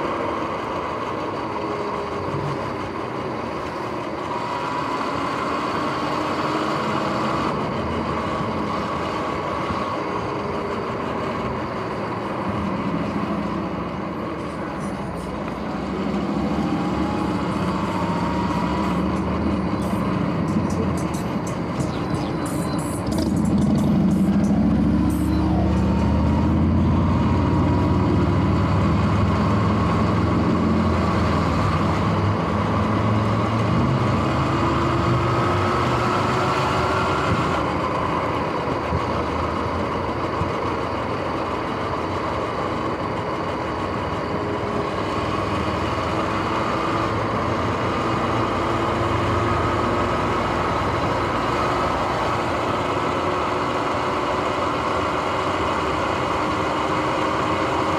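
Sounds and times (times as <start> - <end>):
road and wind noise: 0.0 - 57.9.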